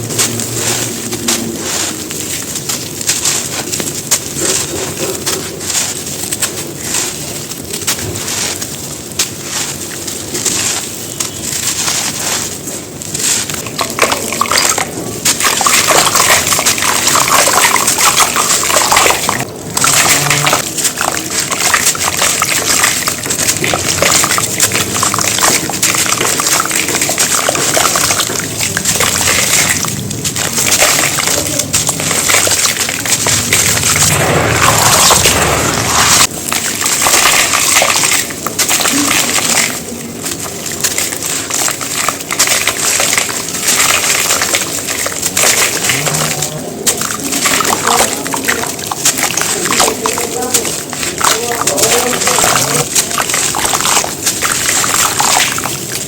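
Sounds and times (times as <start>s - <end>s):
dry cement crumbling: 0.0s - 56.0s.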